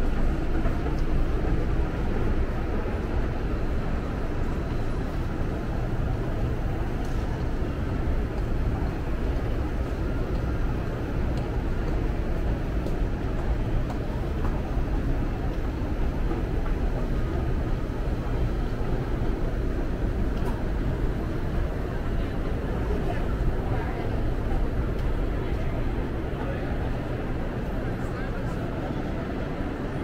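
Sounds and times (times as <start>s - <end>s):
murmur of voices: 0.0s - 30.0s.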